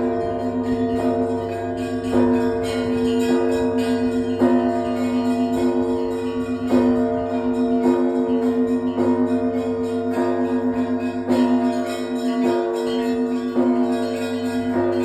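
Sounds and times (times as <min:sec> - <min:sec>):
heavy bell strokes: 0:00.0 - 0:15.0
small bells pulsing: 0:00.0 - 0:15.0.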